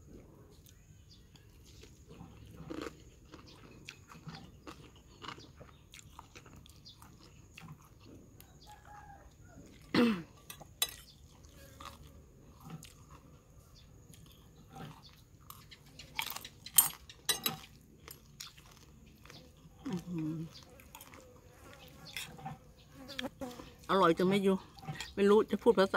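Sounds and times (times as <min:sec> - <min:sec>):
chewing and crunching food: 0:00.0 - 0:25.9.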